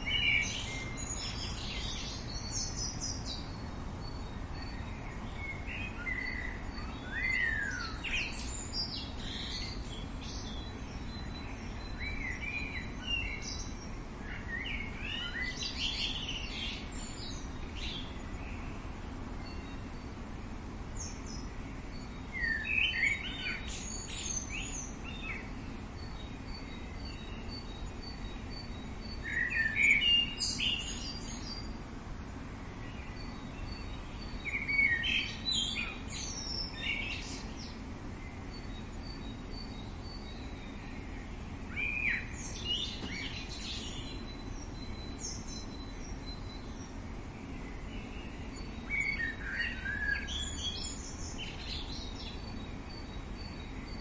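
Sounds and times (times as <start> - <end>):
outdoor background noise: 0.0 - 54.0
songbird chirping: 0.0 - 54.0.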